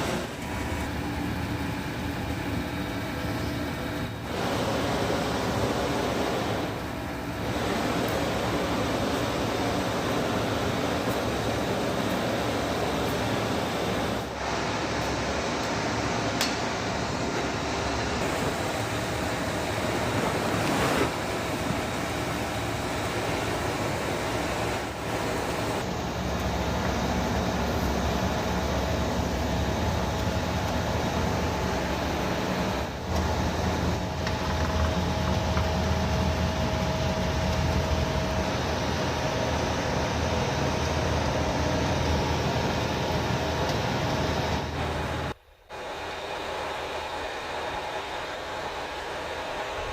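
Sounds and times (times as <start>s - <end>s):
factory machinery drone: 0.0s - 49.9s
faint steady whine: 0.0s - 49.9s.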